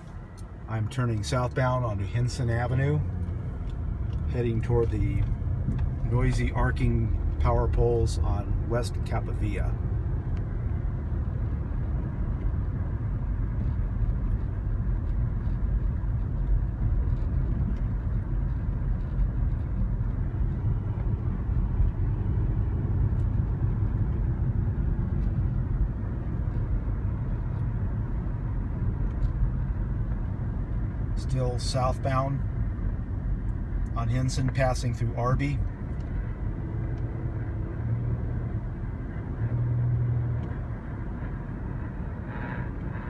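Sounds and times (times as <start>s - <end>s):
road and engine rumble: 0.0s - 43.0s.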